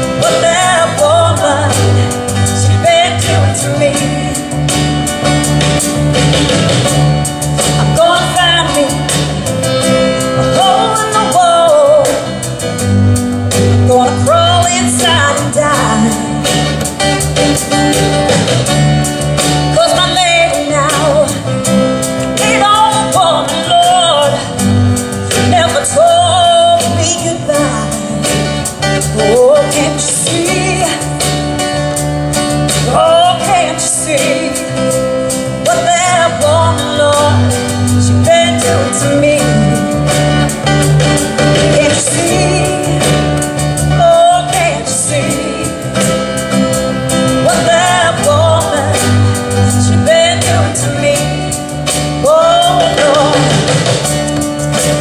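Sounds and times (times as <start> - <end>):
acoustic guitar: 0.0 - 55.0
electric bass: 0.0 - 55.0
woman singing into a microphone: 0.0 - 55.0.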